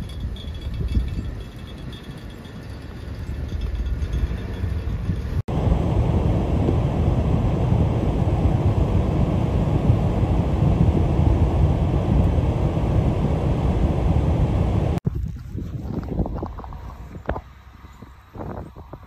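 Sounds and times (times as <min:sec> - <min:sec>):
wind gusting against microphone: 0:00.0 - 0:19.0.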